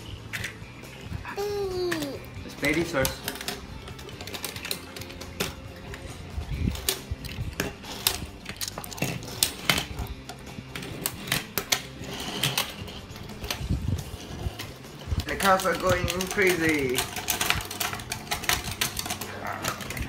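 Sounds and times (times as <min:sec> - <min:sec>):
plastic toy parts clicking: 0:01.7 - 0:06.1, 0:06.7 - 0:20.0.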